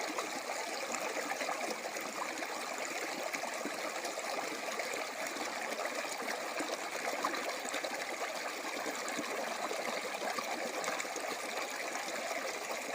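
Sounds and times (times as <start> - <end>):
water trickling and babbling: 0.0 - 12.9.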